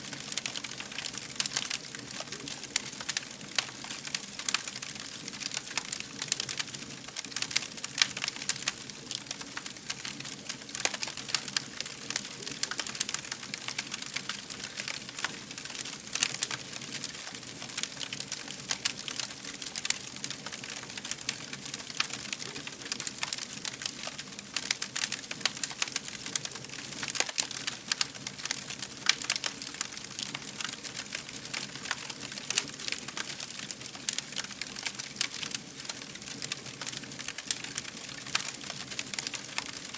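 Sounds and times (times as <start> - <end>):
low hiss of burning: 0.0 - 39.9
wood fire crackling: 0.0 - 39.9.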